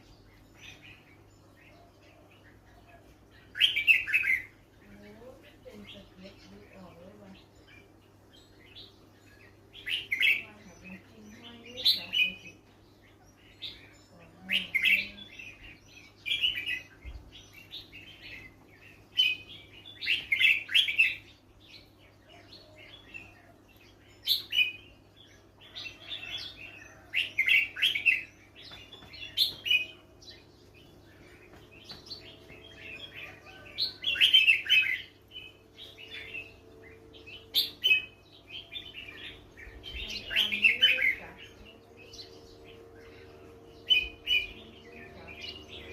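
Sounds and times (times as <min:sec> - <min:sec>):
bird chirping: 0:00.0 - 0:45.9
faint low hum: 0:00.0 - 0:45.9.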